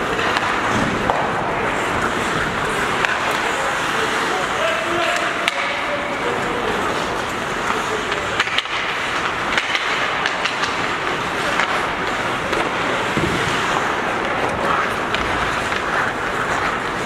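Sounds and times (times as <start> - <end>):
clicks of sticks and puck: 0.0 - 17.0
skate blades scraping ice: 0.0 - 17.0.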